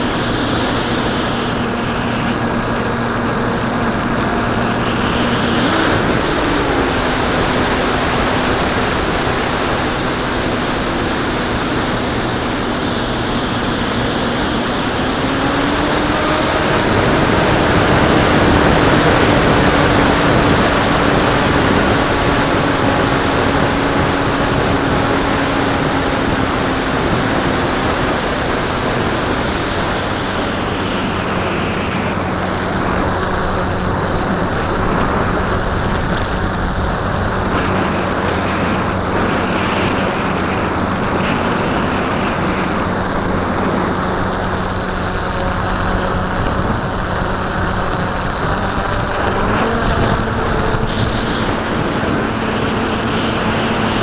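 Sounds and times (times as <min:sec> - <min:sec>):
electric motor humming: 0:00.0 - 0:54.0
wind rushing over camera: 0:00.0 - 0:54.0.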